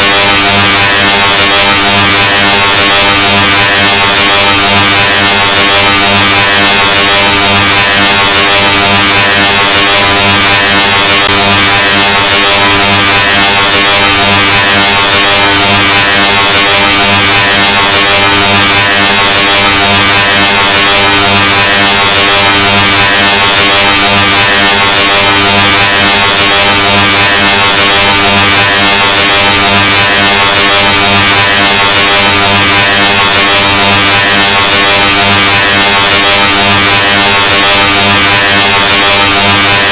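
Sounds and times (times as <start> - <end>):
loud distorted buzz: 0.0 - 39.9.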